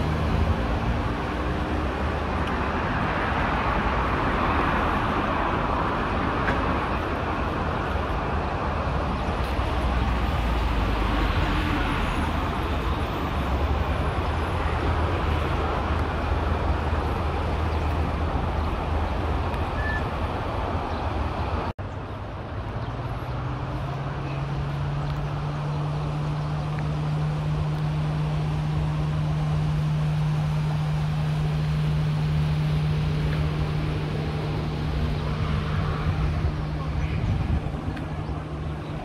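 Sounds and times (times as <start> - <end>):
vehicle running rumble: 0.0 - 39.0.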